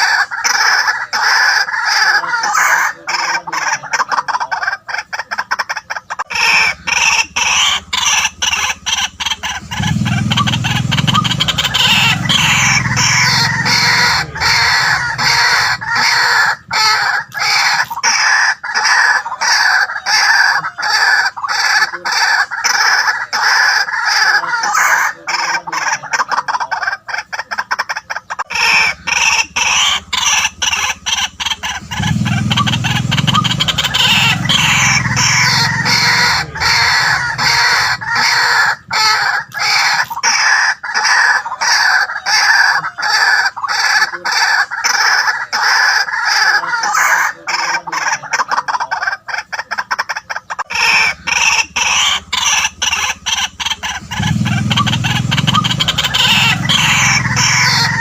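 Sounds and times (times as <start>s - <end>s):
waterhens croaking calls: 0.0s - 58.0s.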